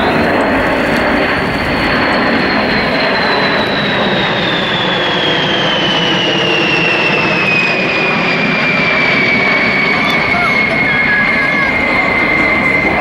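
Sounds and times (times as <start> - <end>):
jet bomber flying past: 0.0 - 13.0.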